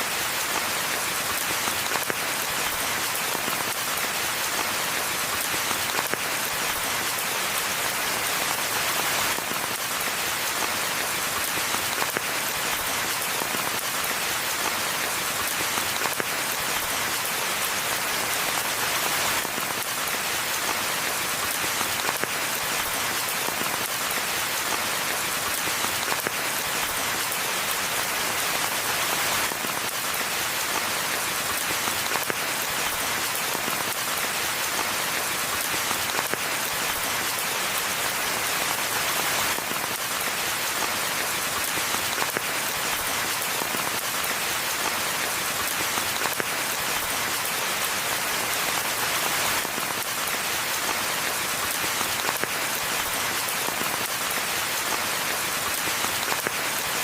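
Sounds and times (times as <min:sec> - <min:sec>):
rain hissing in a forest: 0:00.0 - 0:57.0.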